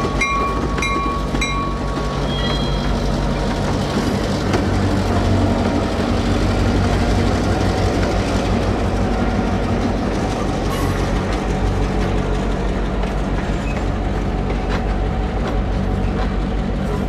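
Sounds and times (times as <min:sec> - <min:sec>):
train rolling on rails: 0:00.0 - 0:17.0
diesel engine drone: 0:02.8 - 0:17.0.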